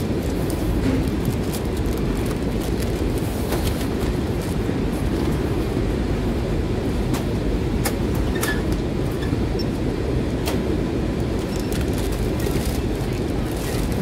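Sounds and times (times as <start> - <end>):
machinery low rumble: 0.0 - 14.0.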